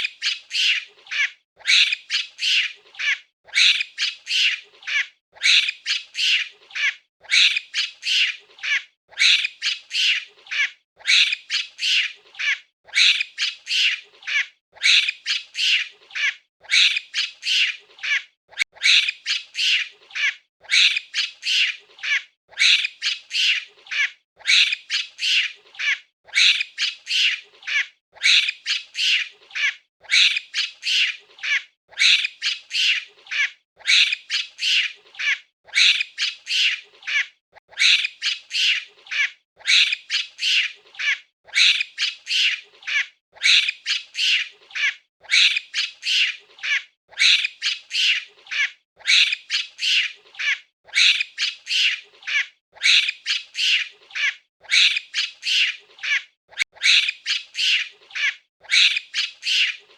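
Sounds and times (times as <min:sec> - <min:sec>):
monkey squealing calls: 0:00.0 - 0:59.9.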